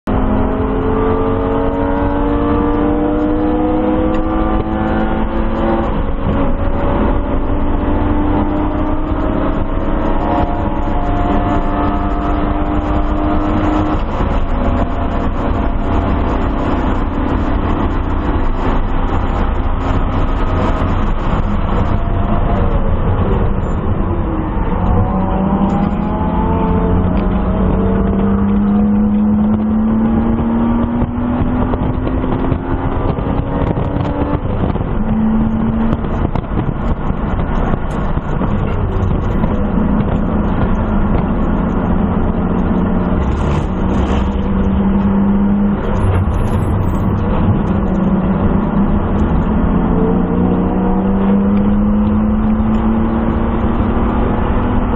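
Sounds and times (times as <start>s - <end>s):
car engine at full throttle: 0.0s - 54.9s
wind and tyre noise: 0.0s - 54.9s.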